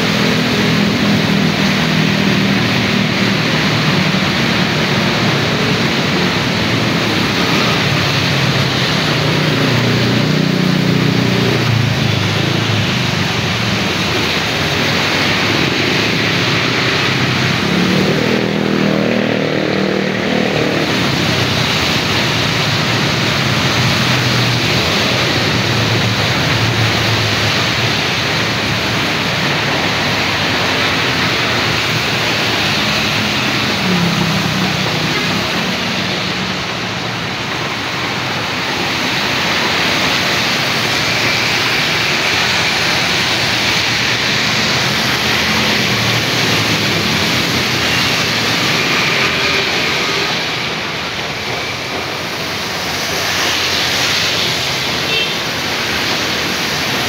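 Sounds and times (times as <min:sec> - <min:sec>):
rain hiss: 0:00.0 - 0:57.0
tyres on a wet road: 0:00.0 - 0:57.0
vehicle engine: 0:00.0 - 0:57.0.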